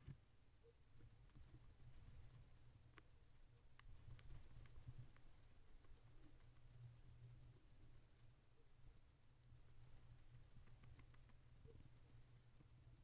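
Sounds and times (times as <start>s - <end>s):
low steady hum: 0.0s - 13.0s
owl preening clicks and scratches: 1.0s - 12.8s.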